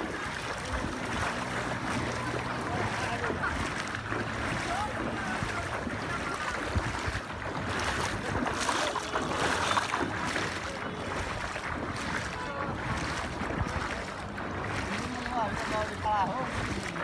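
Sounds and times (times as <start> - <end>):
water sloshing from wading: 0.0 - 17.0
wind on microphone: 0.0 - 17.0.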